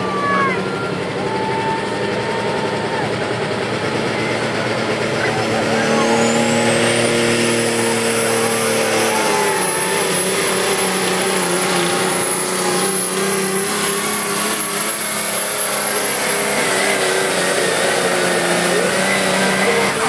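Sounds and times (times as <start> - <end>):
diesel engine at full throttle: 0.0 - 20.0.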